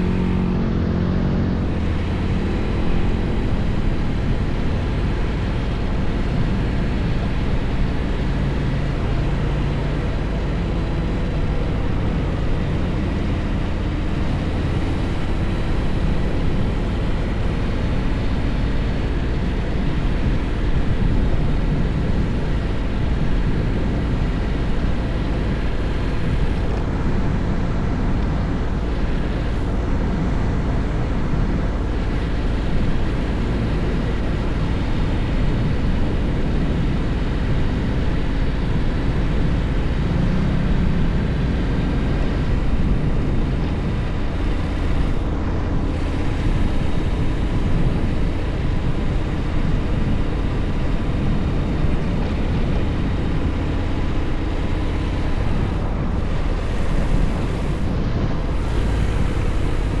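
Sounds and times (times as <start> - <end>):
motorcycle engine running: 0.0 - 60.0
wind rush on microphone: 0.0 - 60.0.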